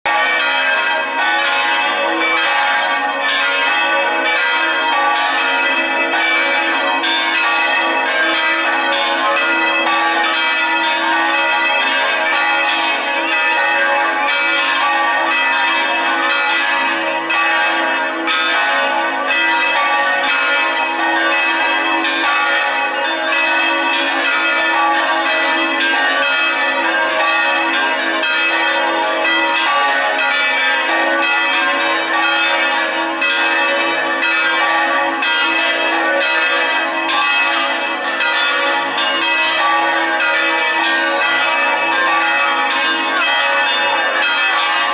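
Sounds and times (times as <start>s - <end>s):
church bells ringing a peal: 0.0s - 44.9s.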